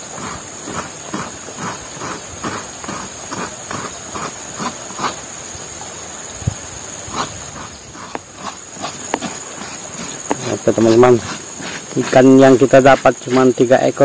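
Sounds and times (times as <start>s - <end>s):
coconut grating strokes: 0.0s - 5.5s, 6.5s - 14.0s
insect drone: 0.0s - 14.0s.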